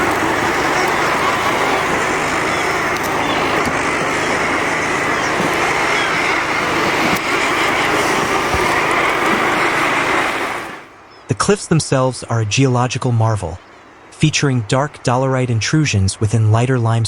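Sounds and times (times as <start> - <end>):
seabird colony calling: 0.0 - 11.5, 13.0 - 17.0
steady low hum: 0.0 - 17.0.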